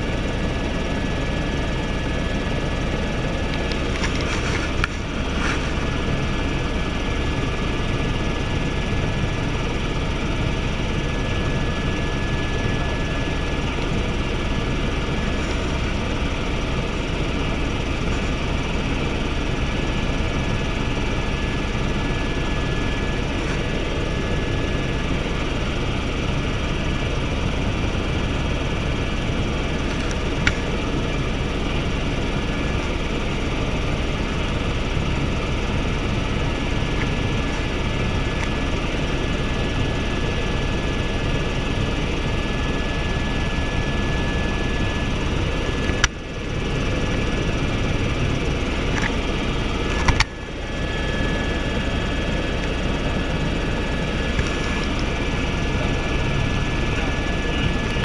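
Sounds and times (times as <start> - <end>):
helicopter rotor drone: 0.0 - 58.0
high turbine whine: 0.0 - 58.0.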